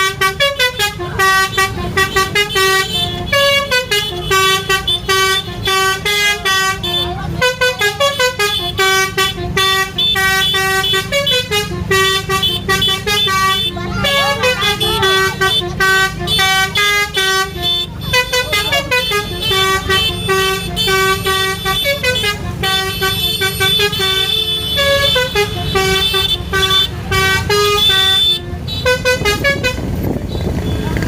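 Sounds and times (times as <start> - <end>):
multi-tone bus horn melody: 0.0 - 31.0.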